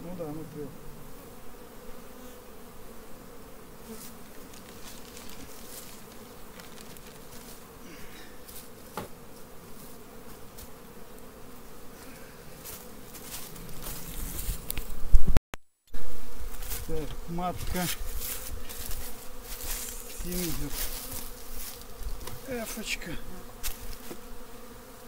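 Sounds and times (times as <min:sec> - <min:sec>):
bees buzzing: 0:00.0 - 0:15.3, 0:16.0 - 0:25.0.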